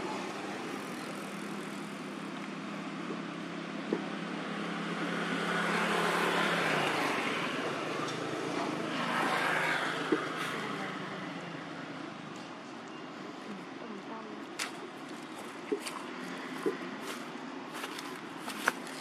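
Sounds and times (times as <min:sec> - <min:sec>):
road noise: 0:00.0 - 0:19.0
vehicle engine humming: 0:00.0 - 0:19.0.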